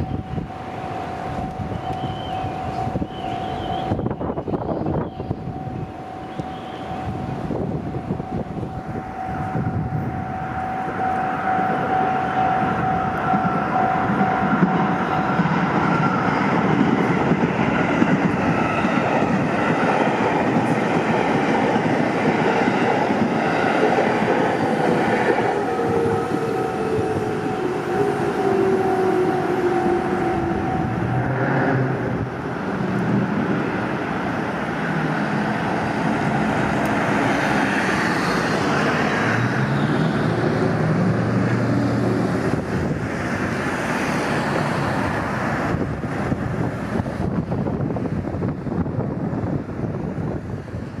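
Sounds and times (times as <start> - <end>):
cars driving: 0.0 - 47.0
crossing warning bells: 0.0 - 48.0
train wheels rumbling on rails: 0.0 - 51.0.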